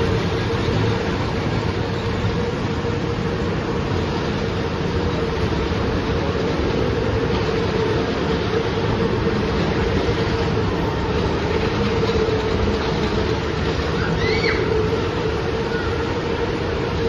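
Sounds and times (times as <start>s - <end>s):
ride cars rolling on track: 0.0s - 17.0s
steady hum: 0.0s - 17.0s.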